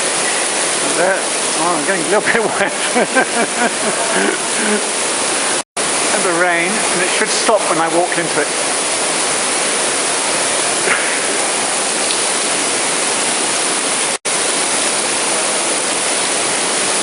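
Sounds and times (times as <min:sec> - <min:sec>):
artificial rain pouring: 0:00.0 - 0:17.0.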